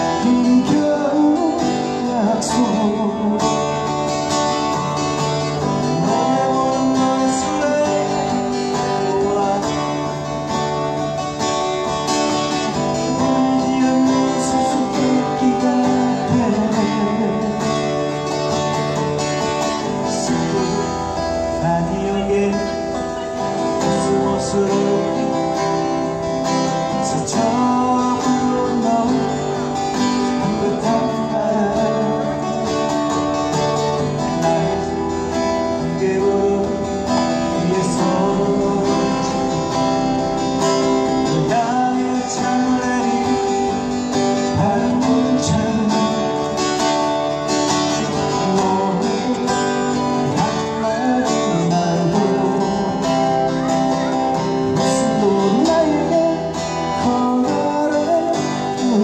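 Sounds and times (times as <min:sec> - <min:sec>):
two acoustic guitars playing: 0:00.0 - 0:59.0.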